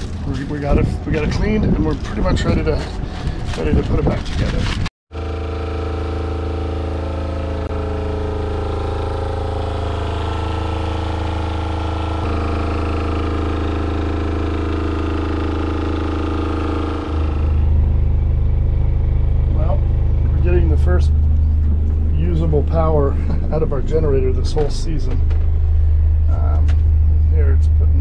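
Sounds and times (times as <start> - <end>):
diesel generator droning: 0.0 - 28.0.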